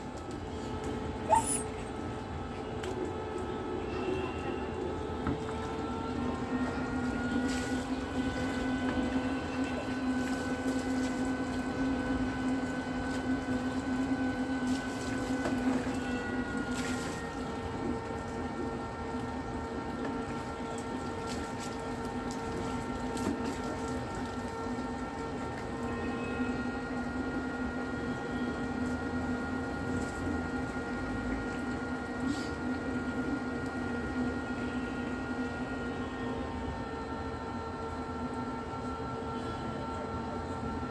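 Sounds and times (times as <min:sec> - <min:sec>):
motor humming with whine: 0:00.0 - 0:40.9.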